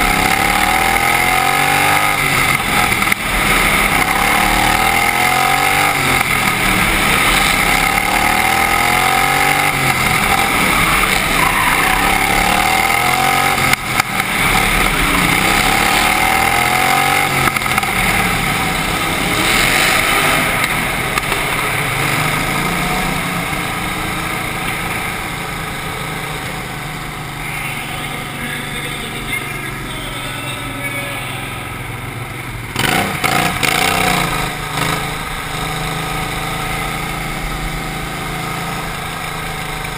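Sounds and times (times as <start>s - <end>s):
lawnmower engine revving: 0.0s - 27.4s, 32.7s - 39.9s.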